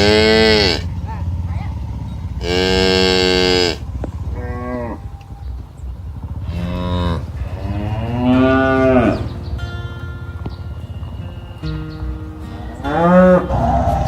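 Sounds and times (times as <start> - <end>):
cows mooing: 0.0 - 14.0
steady low rumble: 0.0 - 14.0.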